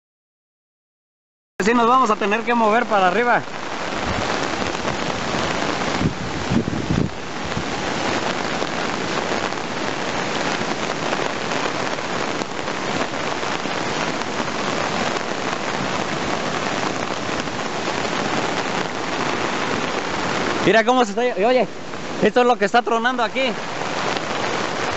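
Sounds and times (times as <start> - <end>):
heavy rain on road: 1.6 - 24.9
river rushing: 1.6 - 24.9.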